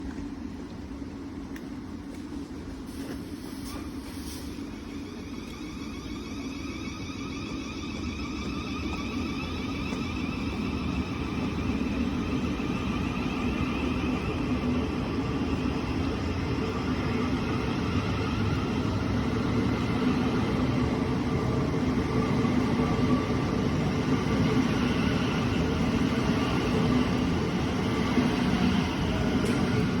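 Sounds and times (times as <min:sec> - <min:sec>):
wheels rumbling on track: 0:02.0 - 0:30.0
train traction whine: 0:02.2 - 0:30.0.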